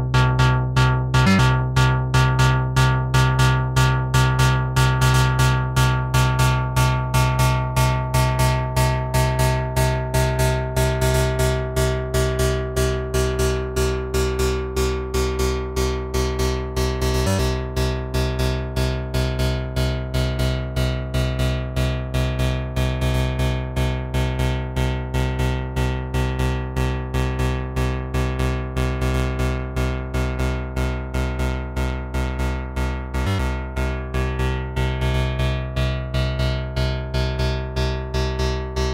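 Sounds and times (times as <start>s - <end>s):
synthesizer bass sequence: 0.0s - 38.9s.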